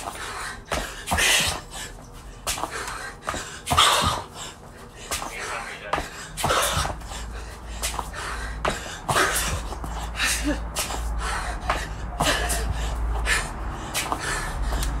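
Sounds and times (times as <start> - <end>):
woman breathing hard: 0.0 - 15.0.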